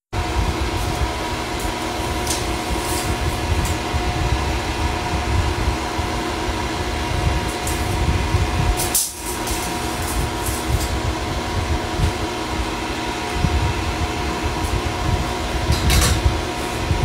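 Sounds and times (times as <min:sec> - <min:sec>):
shop machinery droning: 0:00.1 - 0:17.0.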